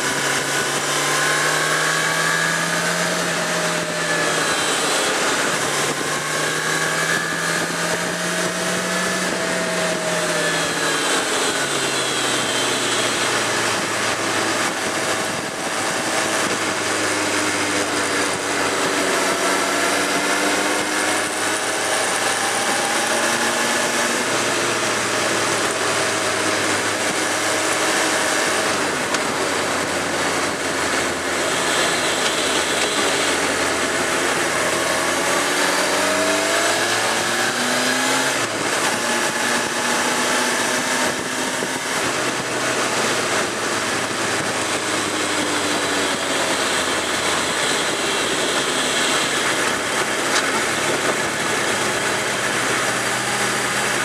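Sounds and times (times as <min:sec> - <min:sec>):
motorcycle engine running: 0:00.0 - 0:54.0
wind rush: 0:00.0 - 0:54.0.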